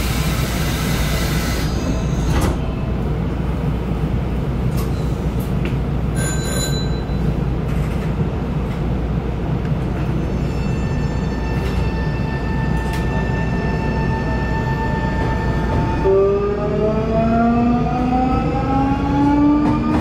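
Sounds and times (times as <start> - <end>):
low electric train hum: 0.0 - 20.0.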